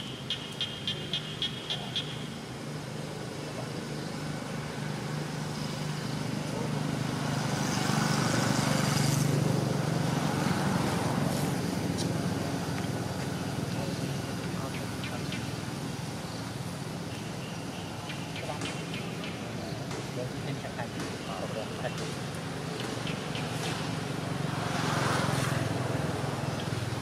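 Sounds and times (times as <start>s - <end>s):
vehicle engine passing: 3.1s - 17.0s, 18.3s - 27.0s.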